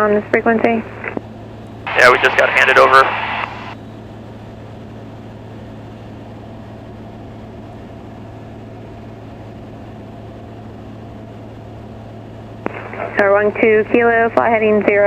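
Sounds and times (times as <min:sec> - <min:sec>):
aircraft engine and propeller droning: 0:00.0 - 0:15.0.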